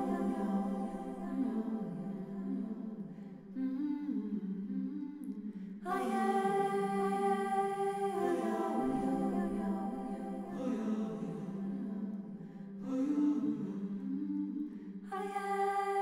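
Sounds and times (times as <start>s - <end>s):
voices humming and singing in harmony: 0.0s - 16.0s.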